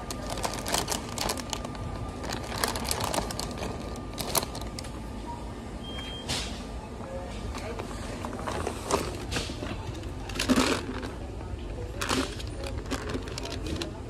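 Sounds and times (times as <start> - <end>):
plastic bags crinkling: 0.0 - 5.0, 7.7 - 14.0.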